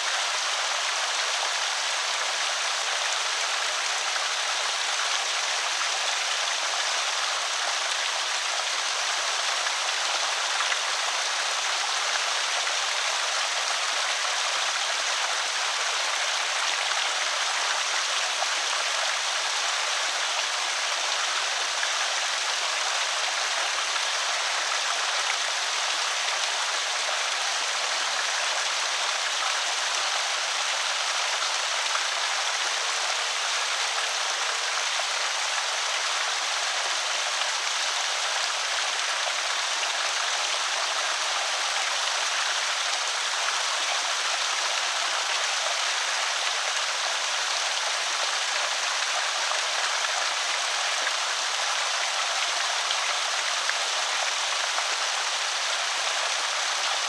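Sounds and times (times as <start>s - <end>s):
water rushing over spillway: 0.0s - 57.0s.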